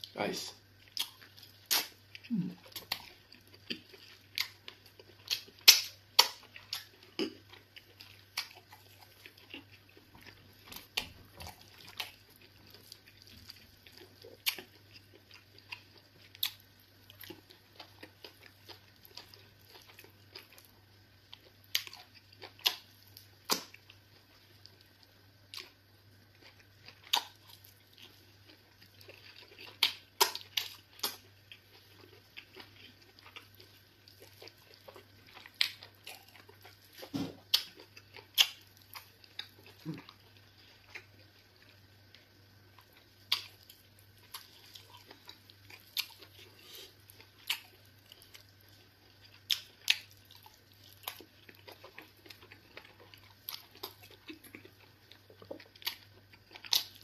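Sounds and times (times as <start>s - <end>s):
faint steady hum: 0.0s - 57.0s
wet chewing: 0.8s - 20.7s, 26.4s - 57.0s.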